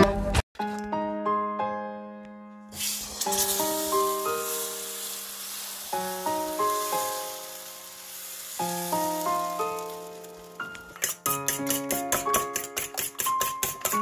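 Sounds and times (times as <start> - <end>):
batter sizzling on hot pan: 2.7 - 14.0.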